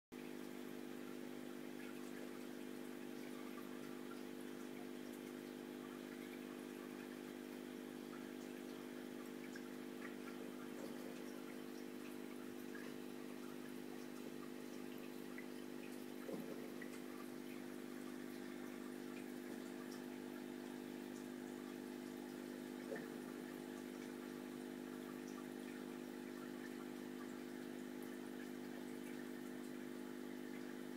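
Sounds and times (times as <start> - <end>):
aquarium equipment hum: 0.2 - 30.9
water trickling: 0.2 - 30.9.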